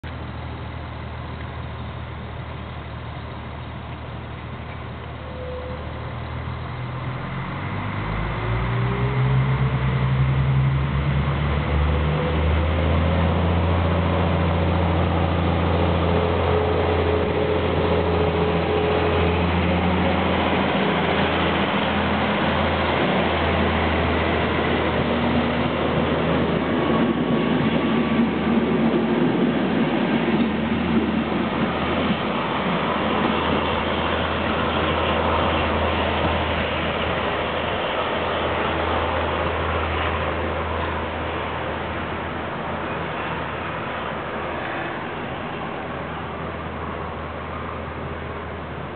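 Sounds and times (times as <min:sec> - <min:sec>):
diesel railcar accelerating: 0:00.0 - 0:48.9.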